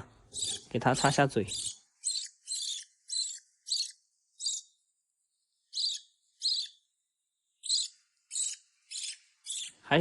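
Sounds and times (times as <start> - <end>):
parrot chick chirping: 0.0 - 10.0.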